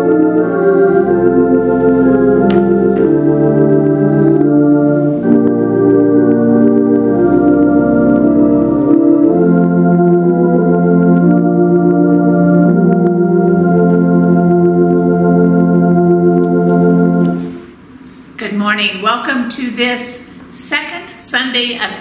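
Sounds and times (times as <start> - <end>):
organ playing slow chords: 0.0 - 17.8.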